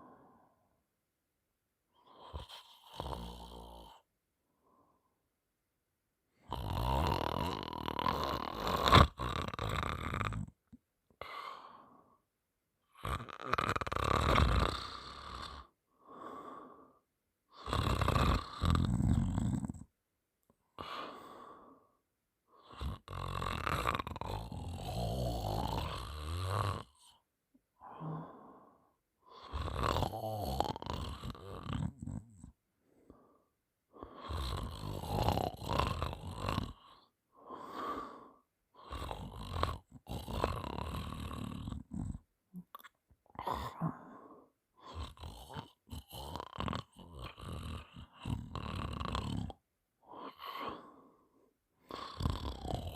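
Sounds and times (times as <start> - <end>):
quiet breaths: 0.0 - 0.9, 1.9 - 5.3, 6.3 - 52.9
person snoring: 2.0 - 4.0, 6.4 - 12.2, 12.9 - 19.9, 20.8 - 21.9, 22.6 - 27.2, 27.8 - 52.9.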